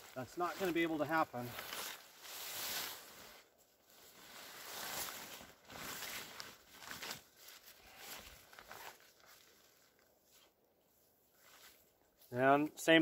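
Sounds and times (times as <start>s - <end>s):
fabric rustling and crinkling: 0.0s - 10.6s.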